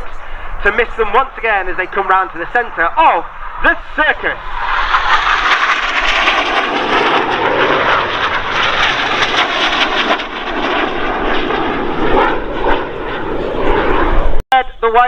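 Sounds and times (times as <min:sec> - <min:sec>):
jet aircraft roaring past: 0:00.0 - 0:14.9.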